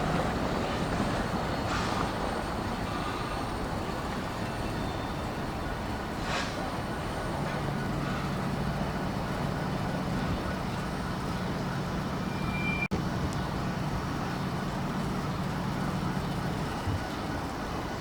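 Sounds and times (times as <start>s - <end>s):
low engine hum: 0.0s - 18.0s
vehicle rumble: 0.0s - 18.0s.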